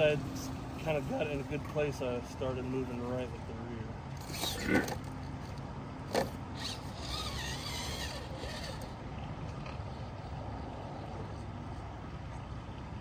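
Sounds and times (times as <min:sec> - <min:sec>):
faint wavering motor whine: 0:00.0 - 0:11.9.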